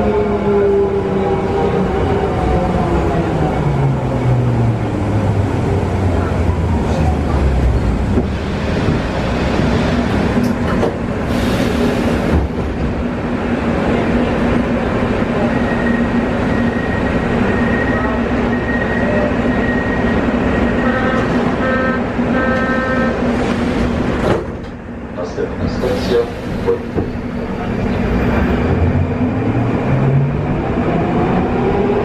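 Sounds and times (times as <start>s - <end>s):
train equipment hum: 0.0s - 32.0s.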